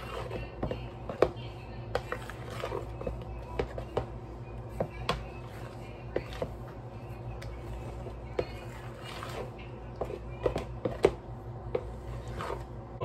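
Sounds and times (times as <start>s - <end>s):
spatula stirring thick mixture: 0.0s - 13.0s
steady low hum: 0.0s - 13.0s.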